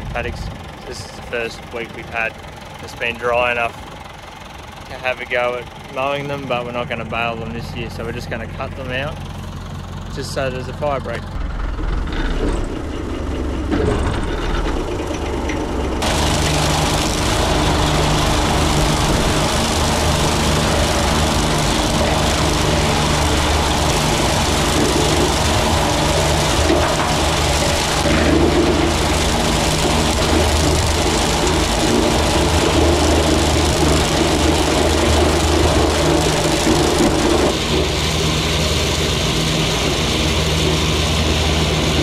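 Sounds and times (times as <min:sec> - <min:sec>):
mower cutting crop rushing: 0:00.0 - 0:42.0
tractor engine running: 0:00.0 - 0:42.0.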